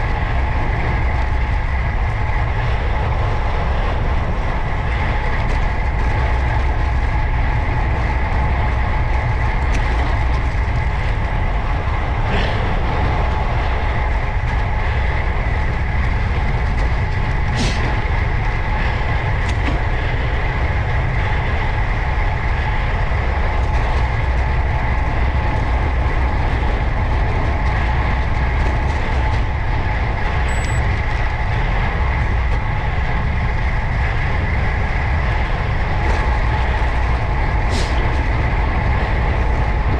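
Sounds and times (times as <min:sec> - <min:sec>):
bicycle road noise: 0:00.0 - 0:39.9
steady high hum: 0:00.0 - 0:39.9
wind rumble: 0:00.0 - 0:39.9.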